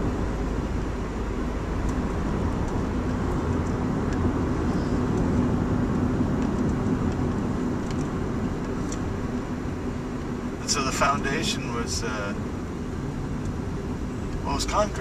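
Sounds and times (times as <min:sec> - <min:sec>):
car driving at highway speed: 0:00.0 - 0:15.0
low steady hum: 0:00.0 - 0:15.0.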